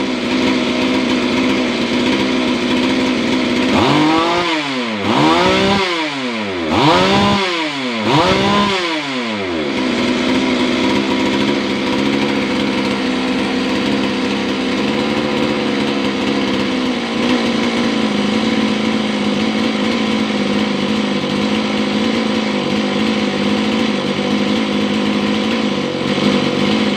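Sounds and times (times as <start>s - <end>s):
chainsaw revving and idling: 0.0s - 26.9s.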